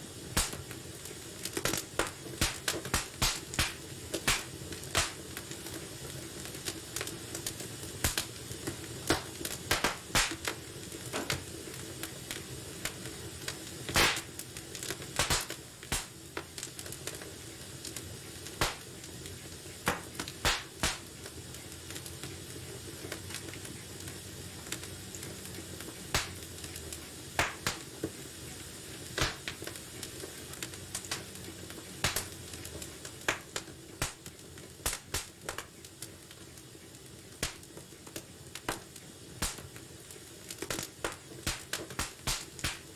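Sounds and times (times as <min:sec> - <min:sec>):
fire hissing: 0:00.0 - 0:42.9
fire pops and snaps: 0:00.0 - 0:42.9
wood fire crackling: 0:00.0 - 0:42.9.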